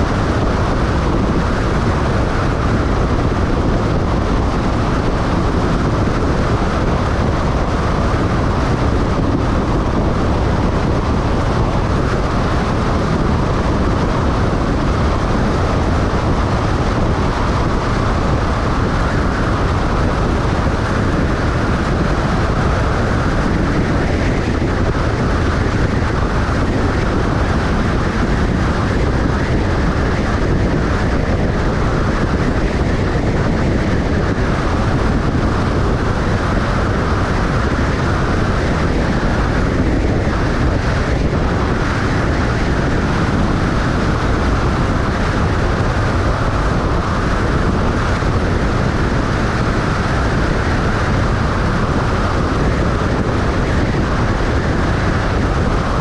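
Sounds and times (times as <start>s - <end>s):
vehicle road noise rumble: 0.0s - 56.0s.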